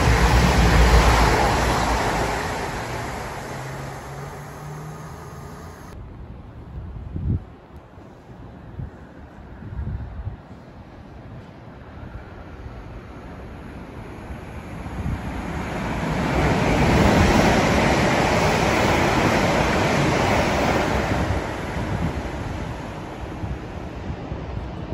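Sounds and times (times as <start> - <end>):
train passing at speed: 0.0 - 6.0, 8.0 - 24.9.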